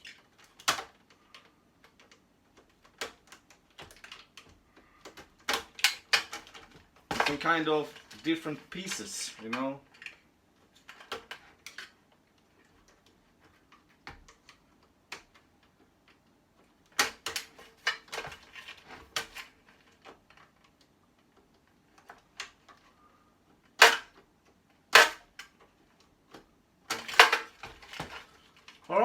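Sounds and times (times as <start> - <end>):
plastic and metal parts clattering: 0.0 - 29.0.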